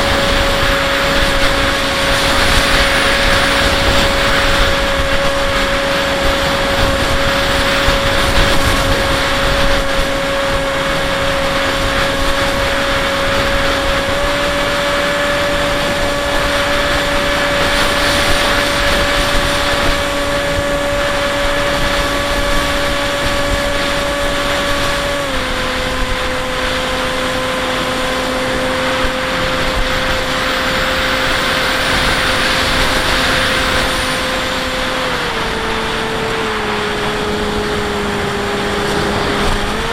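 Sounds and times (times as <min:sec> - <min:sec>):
electric motor and propeller whining: 0:00.0 - 0:39.9
rushing wind noise: 0:00.0 - 0:39.9.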